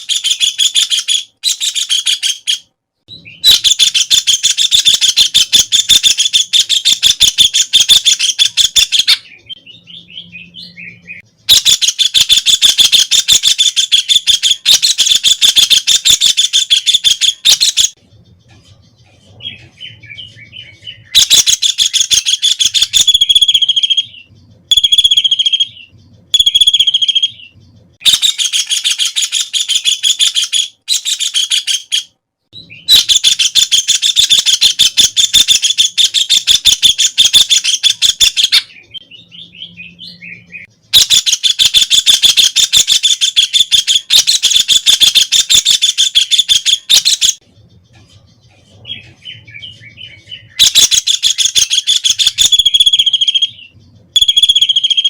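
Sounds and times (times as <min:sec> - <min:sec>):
bird chattering: 0:00.0 - 0:55.0.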